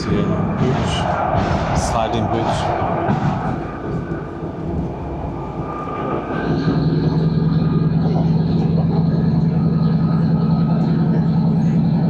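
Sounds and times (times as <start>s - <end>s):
train rumbling from inside: 0.0s - 12.0s.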